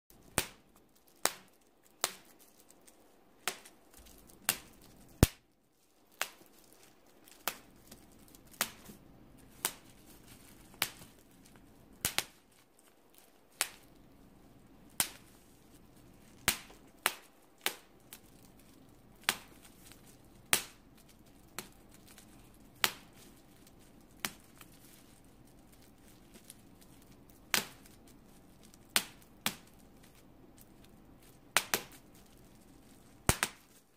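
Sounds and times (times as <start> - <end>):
bubble wrap popping: 0.1 - 33.9.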